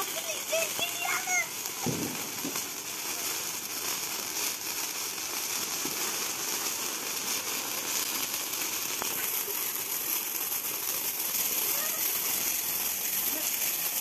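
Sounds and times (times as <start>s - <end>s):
sparklers crackling: 0.0s - 14.0s.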